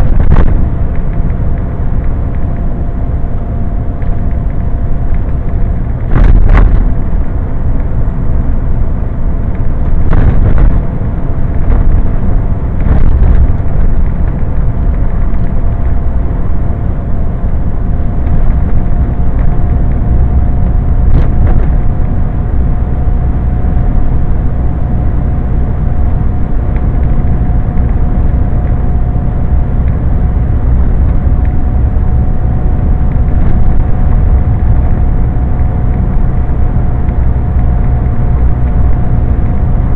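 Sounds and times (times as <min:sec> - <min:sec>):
thin steady whine: 0:00.0 - 0:39.9
truck engine and road rumble: 0:00.0 - 0:39.9.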